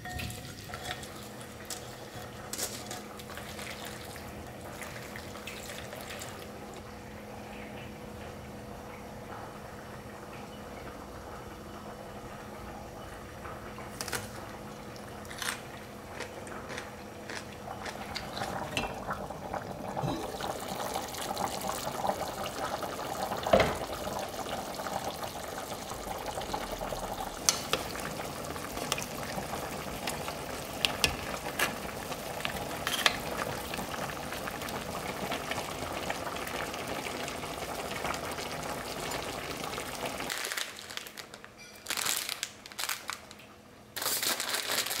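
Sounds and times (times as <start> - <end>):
broth bubbling in a pot: 0.0 - 40.4.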